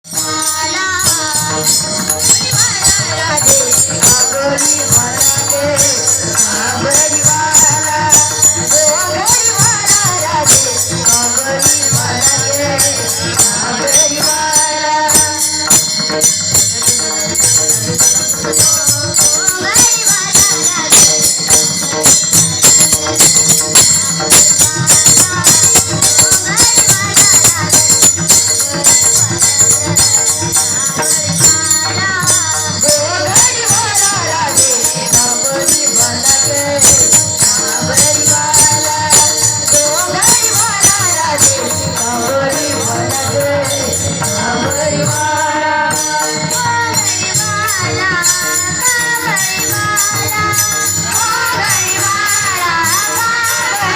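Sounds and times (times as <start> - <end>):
jingling hand percussion: 0.0 - 53.9.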